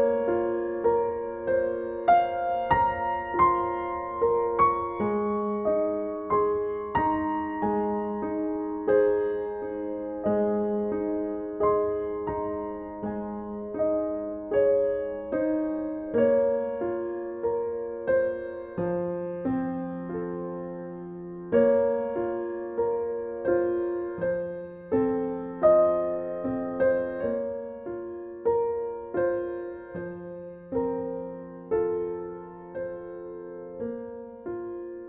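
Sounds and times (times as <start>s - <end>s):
soft piano notes: 0.0s - 35.0s.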